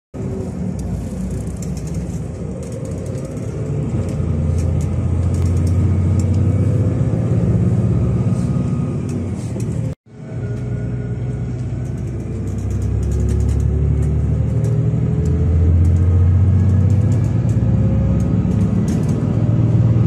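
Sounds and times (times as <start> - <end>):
car engine and road rumble: 0.2 - 20.0.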